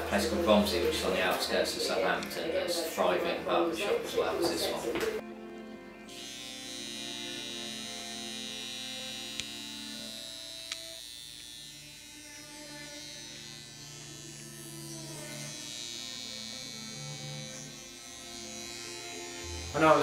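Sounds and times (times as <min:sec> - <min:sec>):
electric hair clippers buzzing: 0:00.0 - 0:02.5, 0:06.1 - 0:20.0.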